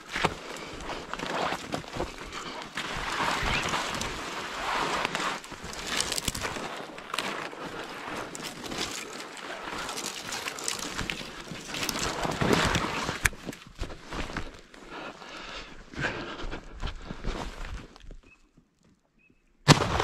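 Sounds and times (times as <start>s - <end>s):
footsteps crunching through snow: 0.0s - 18.2s.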